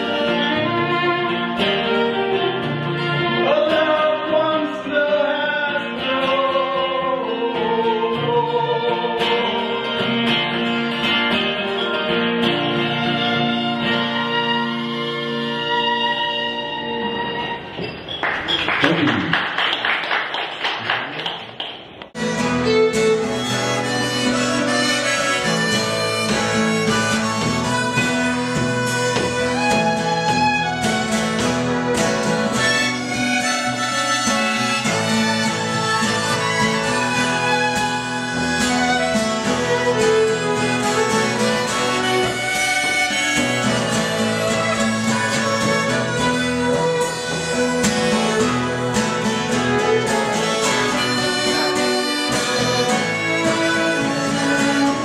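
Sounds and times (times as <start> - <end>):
harmonica: 0.0 - 17.7, 22.2 - 55.0
violin: 0.0 - 18.1, 22.1 - 55.0
acoustic guitar: 0.0 - 55.0.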